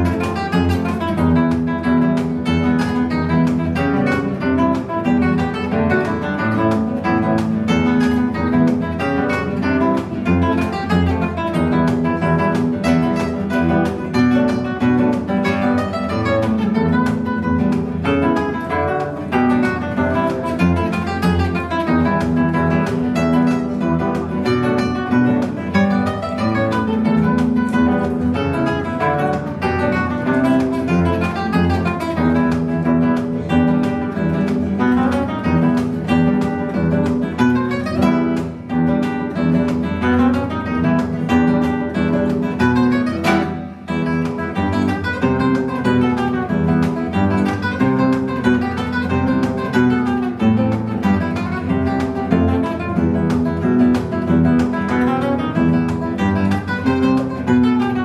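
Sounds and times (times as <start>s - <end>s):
classical guitar duet: 0.0s - 58.0s.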